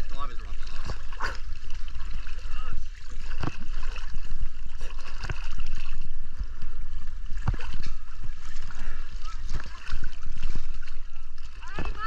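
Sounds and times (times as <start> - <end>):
sea water sloshing and slapping: 0.0 - 12.0
small splashes: 0.0 - 12.0.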